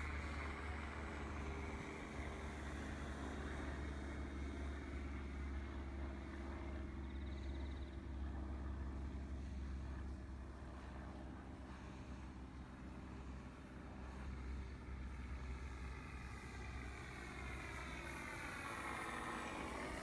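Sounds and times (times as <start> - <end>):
electric motor and propeller: 0.0 - 20.0
model plane engine drone: 0.0 - 20.0.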